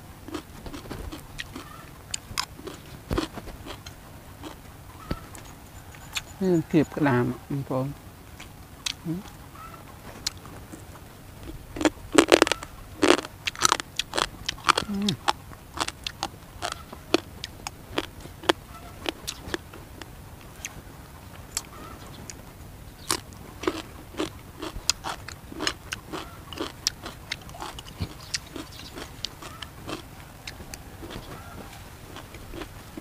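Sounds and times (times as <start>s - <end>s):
man chewing and smacking lips: 0.0s - 7.0s, 8.3s - 33.0s.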